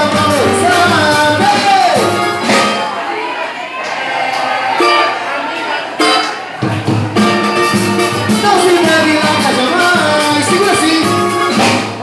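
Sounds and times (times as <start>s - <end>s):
live band with singer: 0.0s - 3.6s, 4.4s - 12.0s.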